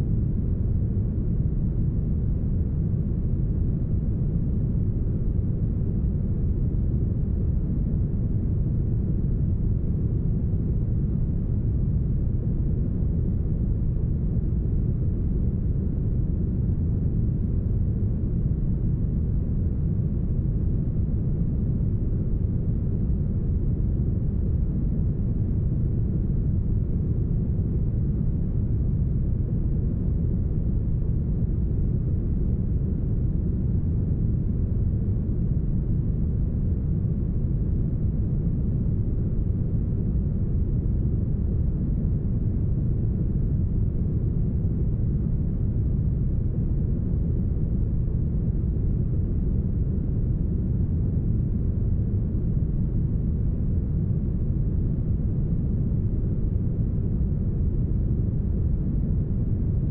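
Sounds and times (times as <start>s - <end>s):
low brown noise rumble: 0.0s - 59.9s.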